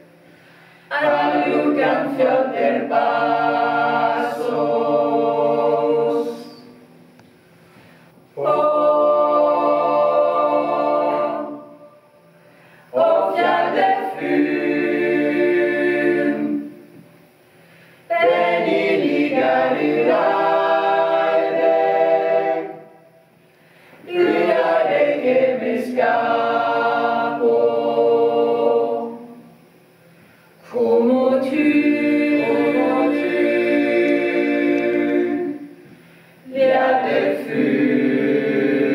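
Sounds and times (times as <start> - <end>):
choir singing a cappella: 0.0 - 7.1, 8.3 - 38.9.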